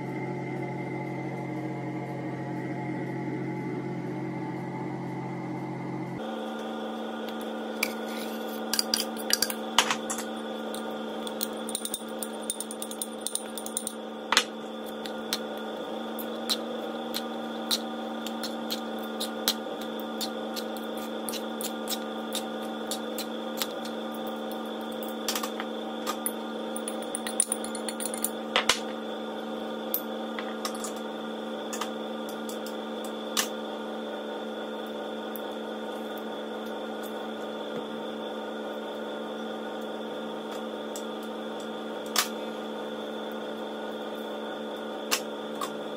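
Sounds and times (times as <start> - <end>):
appliance electrical hum: 0.0 - 45.9.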